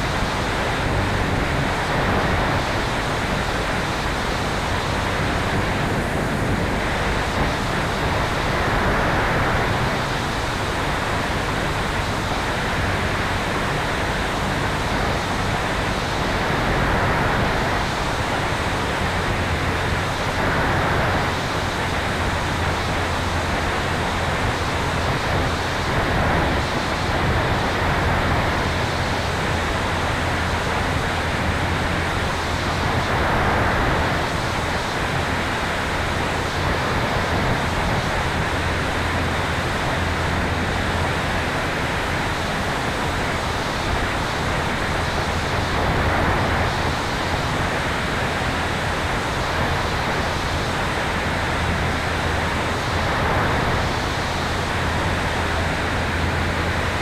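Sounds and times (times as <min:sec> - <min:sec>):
low steady hum: 0:00.0 - 0:57.0
wind rushing over camera: 0:00.0 - 0:57.0.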